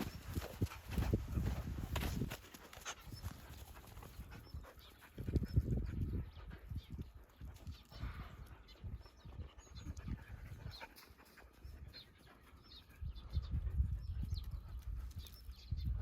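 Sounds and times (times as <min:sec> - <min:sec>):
dogs panting: 0:00.0 - 0:15.6.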